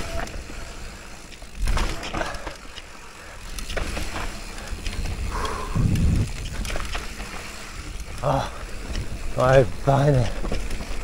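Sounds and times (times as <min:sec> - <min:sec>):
bike knocks and rattles: 0:00.0 - 0:11.0
tyres over dirt and rocks: 0:00.0 - 0:11.0.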